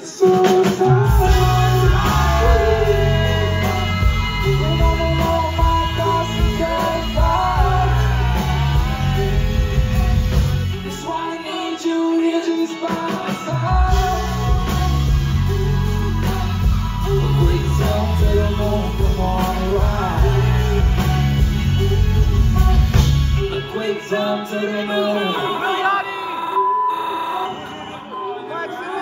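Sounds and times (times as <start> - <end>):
live rock band music: 0.0 - 26.4
man singing into a microphone: 0.0 - 28.8.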